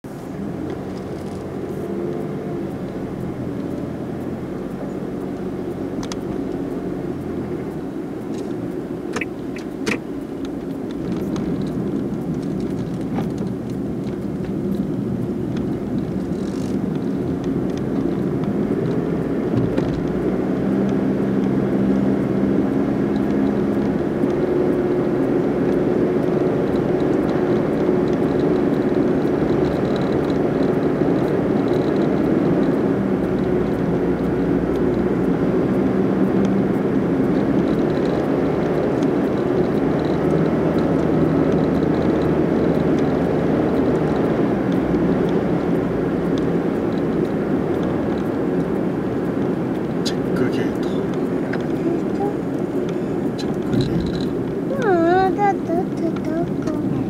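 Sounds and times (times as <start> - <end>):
car engine and road noise: 0.0 - 57.0
sharp clicks: 7.7 - 21.0, 23.1 - 56.9.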